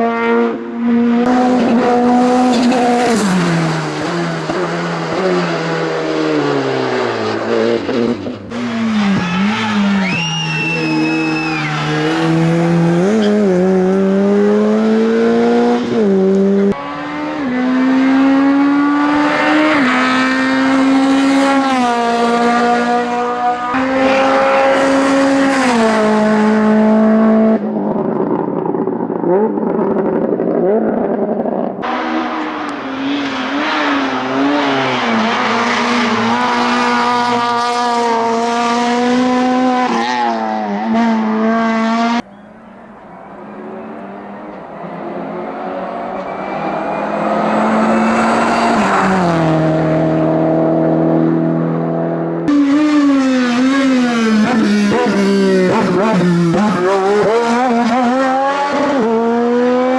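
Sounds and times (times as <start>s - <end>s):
race car engines revving past: 0.0s - 59.9s.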